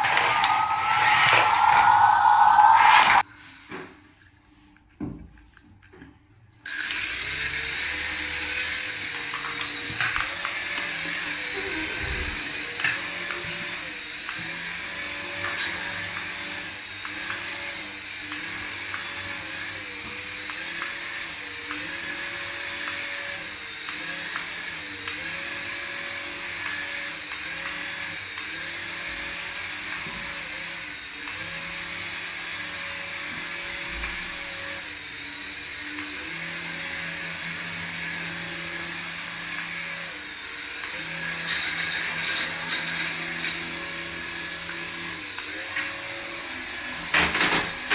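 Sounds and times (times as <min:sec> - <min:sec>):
toy electric motor whirring: 0:06.6 - 0:47.9.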